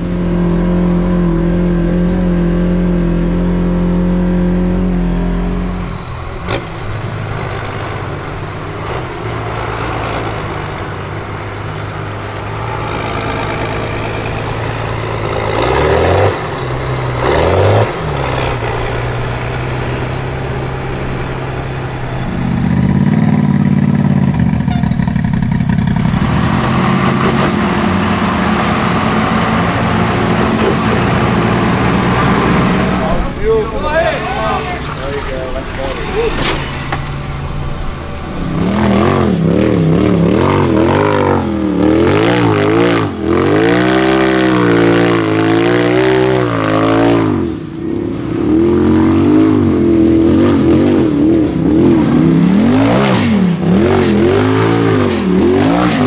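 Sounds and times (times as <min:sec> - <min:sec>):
off-road vehicle engines revving: 0:00.0 - 0:56.0.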